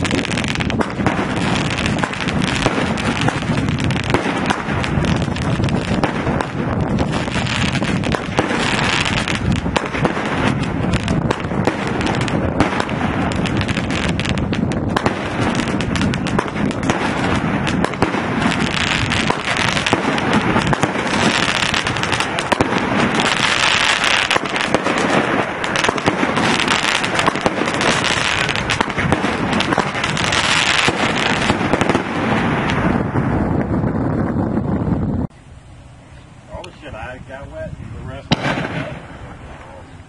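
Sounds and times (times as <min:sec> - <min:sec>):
fireworks crackling: 0:00.0 - 0:40.0.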